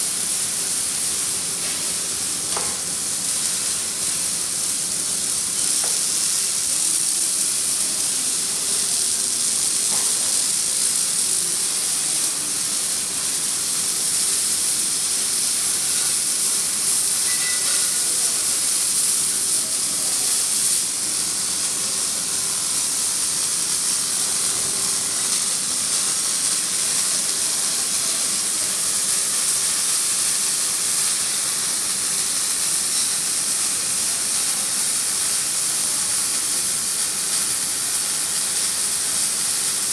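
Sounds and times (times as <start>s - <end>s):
welding arc hissing: 0.0s - 39.9s.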